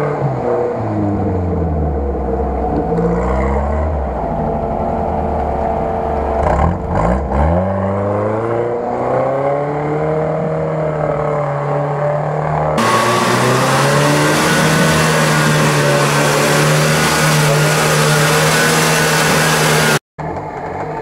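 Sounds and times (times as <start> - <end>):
off-road vehicle engine under load: 0.0 - 21.0.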